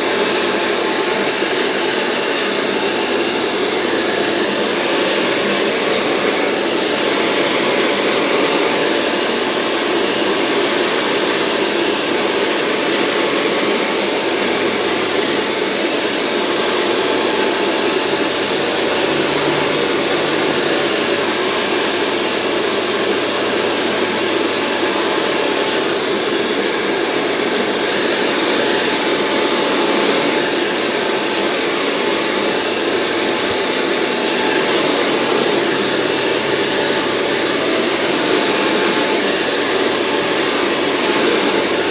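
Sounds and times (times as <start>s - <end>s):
hair dryer blowing: 0.0s - 41.9s.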